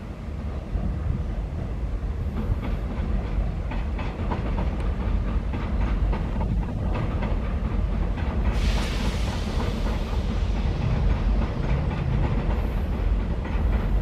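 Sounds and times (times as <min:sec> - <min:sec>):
train wheels clattering over rails: 0:00.3 - 0:14.0.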